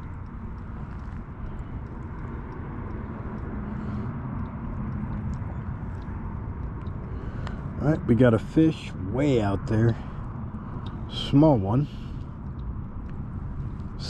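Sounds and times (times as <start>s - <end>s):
faint ticks: 0.0s - 8.1s, 9.9s - 14.0s
low outdoor rumble: 0.0s - 14.0s.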